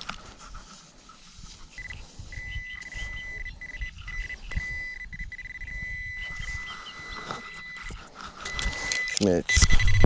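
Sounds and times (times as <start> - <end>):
low rumble of handling and wind: 0.0 - 10.0
pinpointer probe beeping: 1.8 - 10.0.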